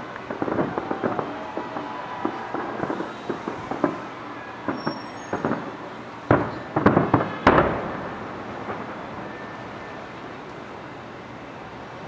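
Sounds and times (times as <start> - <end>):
light firework pops: 0.0 - 9.9
distant fireworks booming: 0.0 - 10.5.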